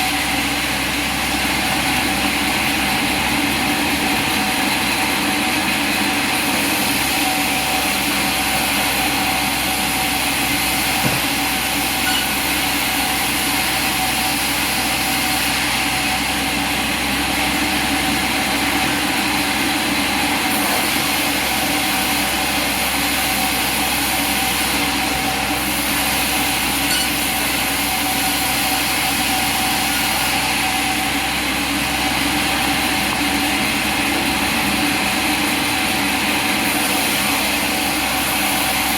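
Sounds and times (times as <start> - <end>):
sawmill machinery din: 0.0 - 38.9.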